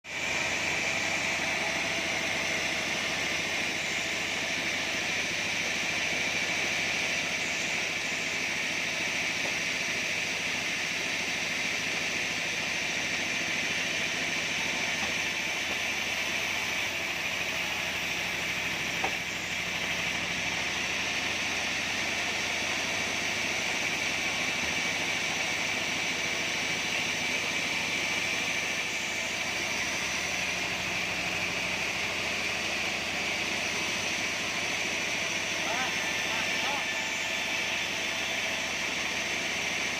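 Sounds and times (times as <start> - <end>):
bandsaw whining: 0.1 - 39.9.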